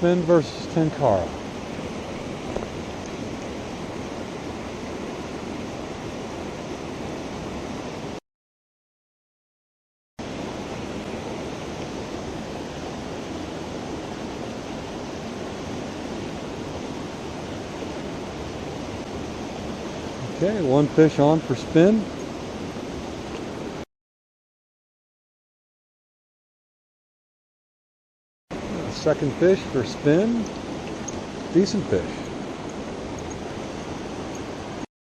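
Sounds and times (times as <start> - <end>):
creek water rushing: 0.0 - 8.2, 10.2 - 23.8, 28.5 - 34.9.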